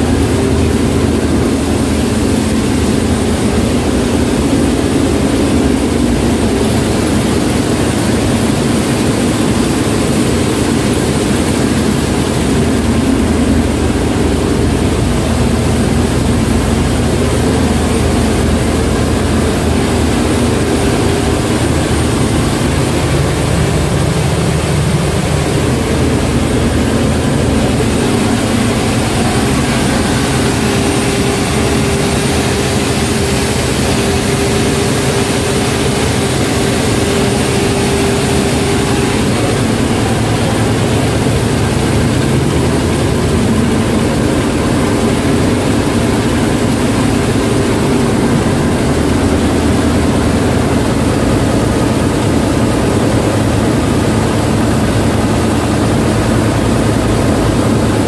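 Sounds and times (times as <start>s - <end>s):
diesel engines drone: 0.0s - 58.0s.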